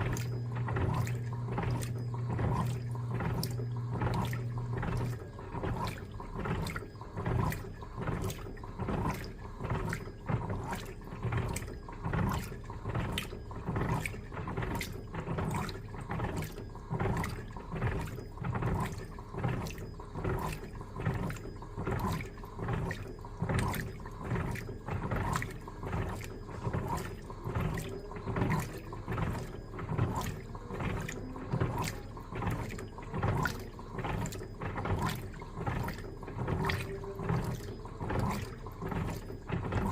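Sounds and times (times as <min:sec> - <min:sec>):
washing machine water sloshing: 0:00.0 - 0:39.9.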